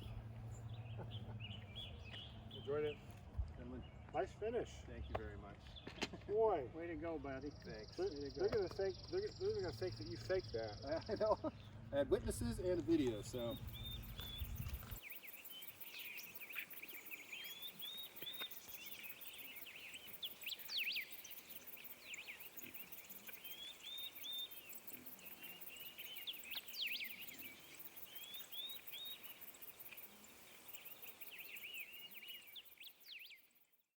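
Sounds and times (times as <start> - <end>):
birds chirping and calling: 0.0 - 33.6
faint outdoor hiss: 0.0 - 33.9.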